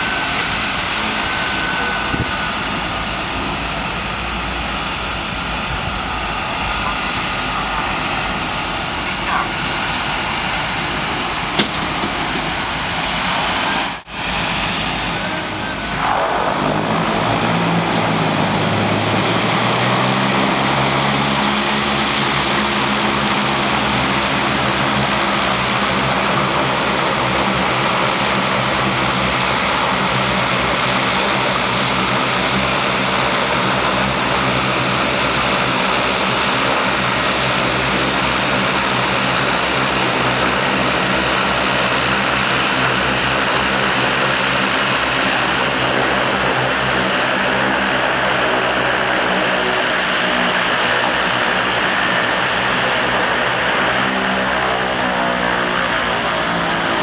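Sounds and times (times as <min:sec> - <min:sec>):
turboprop engines whining: 0:00.0 - 0:57.0.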